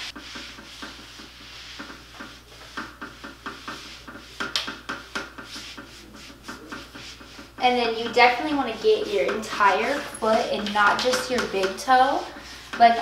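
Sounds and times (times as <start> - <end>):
mitt brushing over skin: 0.0 - 13.0.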